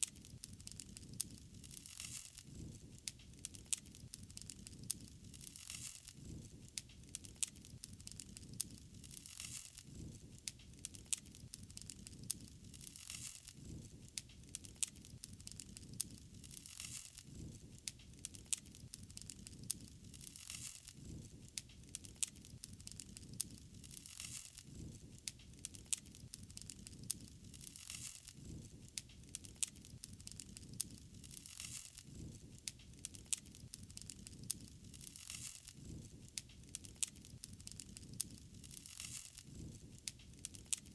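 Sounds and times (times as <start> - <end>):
wood fire crackling: 0.0 - 40.9
low fire rumble: 0.1 - 40.9.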